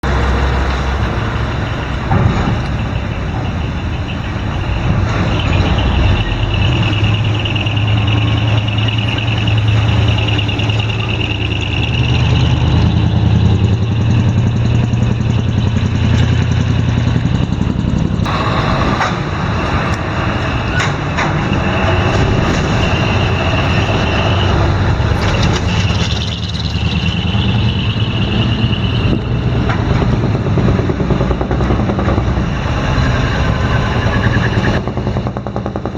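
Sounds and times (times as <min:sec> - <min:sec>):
high steady whine: 0:00.0 - 0:35.0
truck diesel engines: 0:00.0 - 0:35.9.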